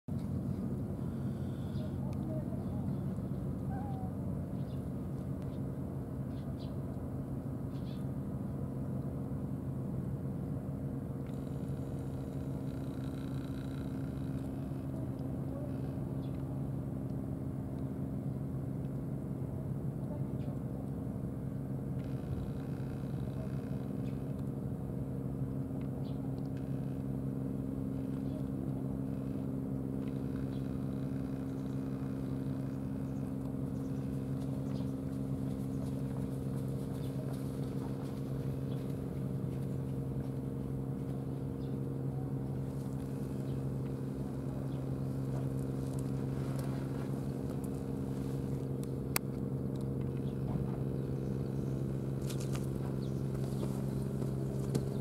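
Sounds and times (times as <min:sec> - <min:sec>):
low drone of running machinery: 0:00.1 - 0:55.0.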